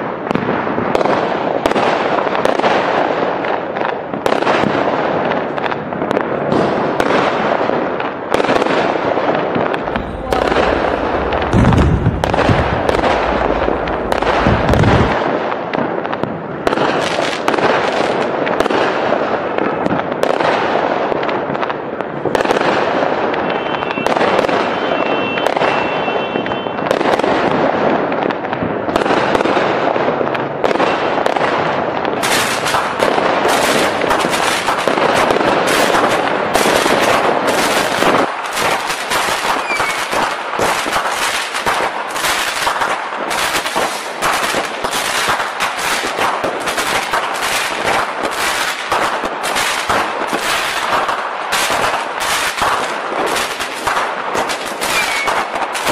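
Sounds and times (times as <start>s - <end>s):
fireworks bursting: 0.0s - 55.9s.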